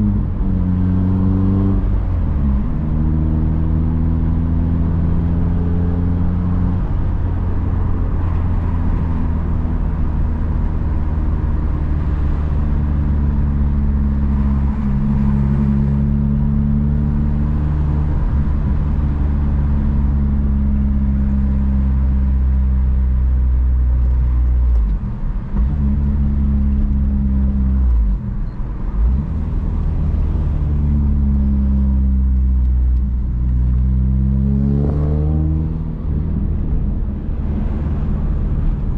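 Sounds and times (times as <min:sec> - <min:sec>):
car engine and exhaust running: 0:01.8 - 0:38.9.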